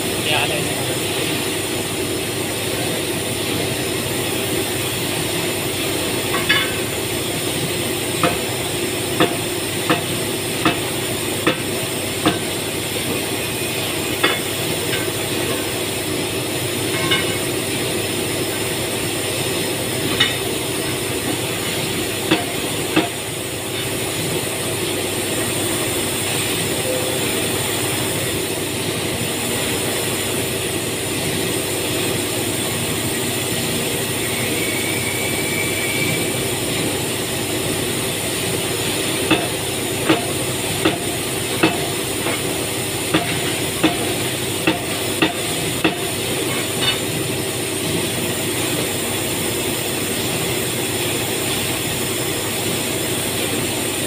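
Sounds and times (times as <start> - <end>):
factory machinery hum: 0.0 - 54.0.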